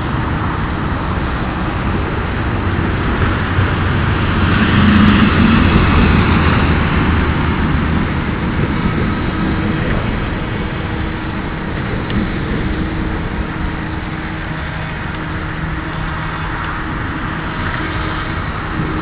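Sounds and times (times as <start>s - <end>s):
airboat engine and propeller drone: 0.0s - 19.0s.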